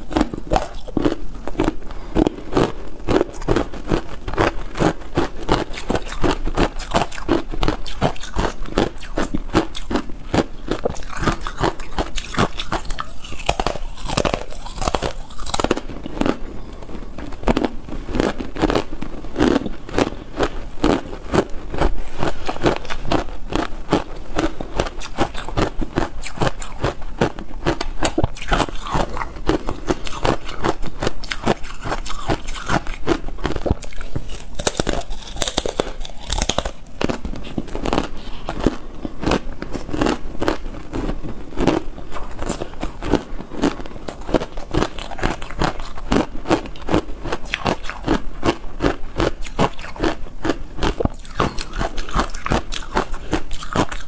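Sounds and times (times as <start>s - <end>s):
ice crunching being chewed: 0.0s - 54.0s.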